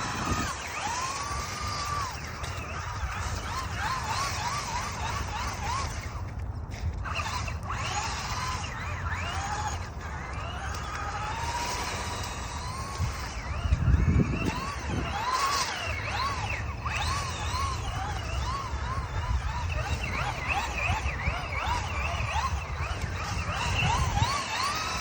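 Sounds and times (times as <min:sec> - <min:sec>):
rc car electric motor whining: 0:00.0 - 0:25.0.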